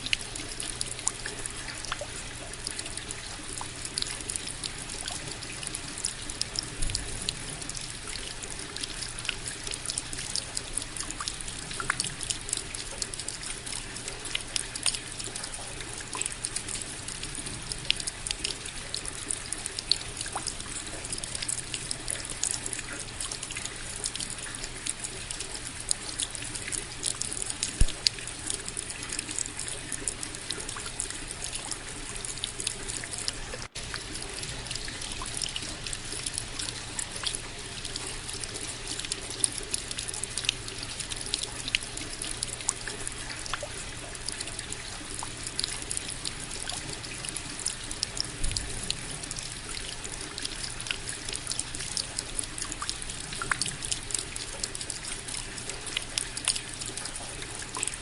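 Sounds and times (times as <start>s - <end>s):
rain pattering: 0.0s - 58.0s
running water trickle: 0.0s - 58.0s.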